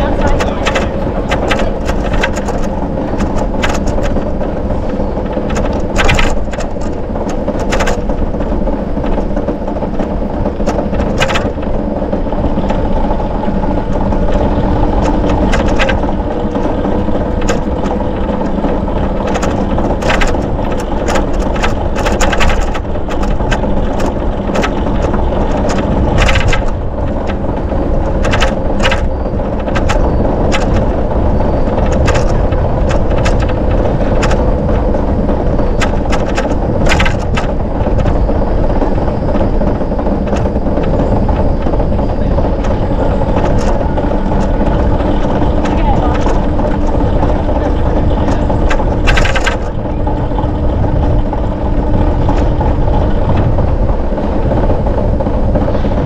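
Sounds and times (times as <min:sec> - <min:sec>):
bicycle rolling rumble: 0:00.0 - 0:56.0
bike clicks and rattles over bumps: 0:00.0 - 0:56.0.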